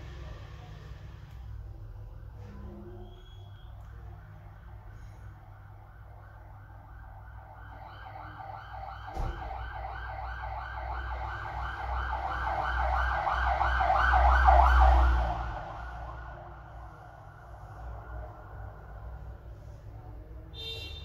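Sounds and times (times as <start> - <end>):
low rumble of vehicle: 0.0 - 21.0
warbling emergency siren: 2.1 - 19.8.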